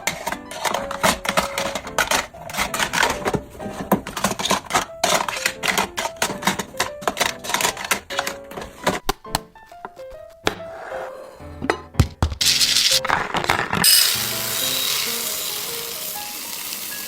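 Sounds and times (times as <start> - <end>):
small items clicking and clattering: 0.0 - 9.0, 12.3 - 17.0
faint background music: 0.0 - 17.0.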